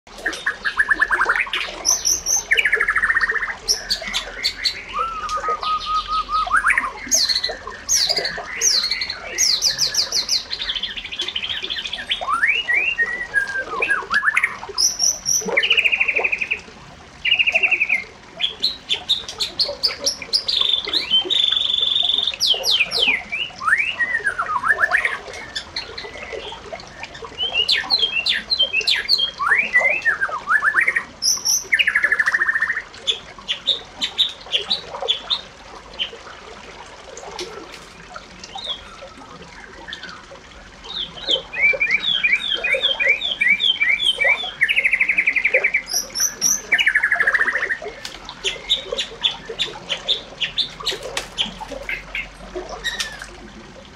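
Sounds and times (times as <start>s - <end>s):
birds chirping and calling: 0.1s - 36.2s, 37.4s - 53.4s.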